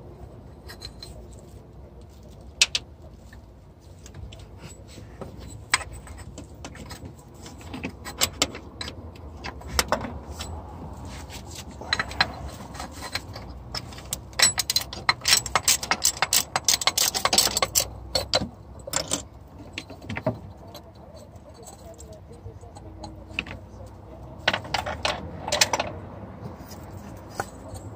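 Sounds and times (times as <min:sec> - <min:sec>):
metal tools clinking: 0:00.5 - 0:01.6, 0:04.0 - 0:27.9.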